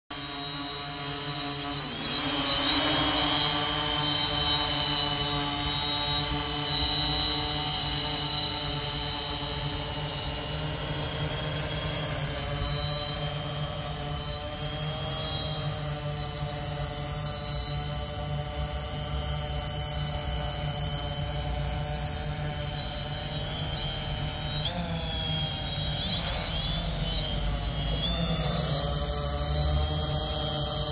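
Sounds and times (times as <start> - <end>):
drone propellers whining: 0.1 - 30.9.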